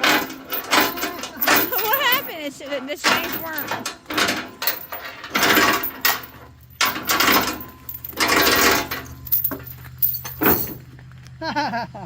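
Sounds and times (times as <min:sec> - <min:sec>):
steel chain clanking: 0:00.0 - 0:11.0.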